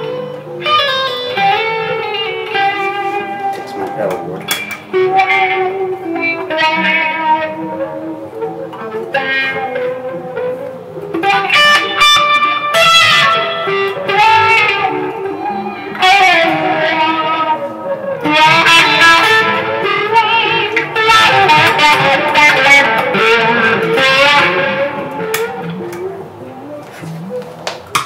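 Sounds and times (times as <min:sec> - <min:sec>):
electric guitar picked notes: 0:00.0 - 0:28.0.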